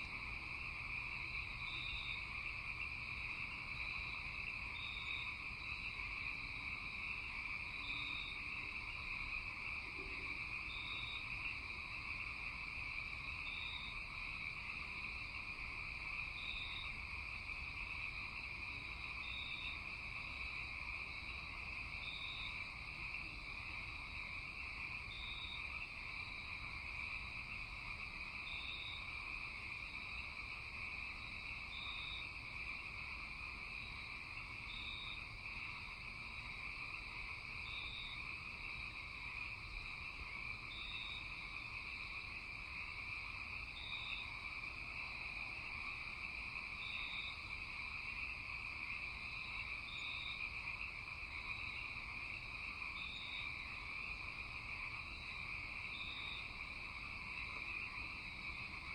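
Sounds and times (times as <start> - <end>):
high dense insect trill: 0.1 - 58.9.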